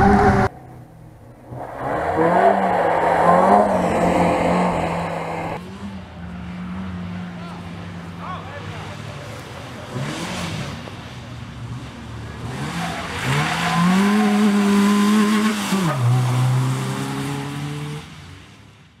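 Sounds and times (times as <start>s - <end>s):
rally car engine revving: 0.0s - 8.2s, 8.9s - 18.1s.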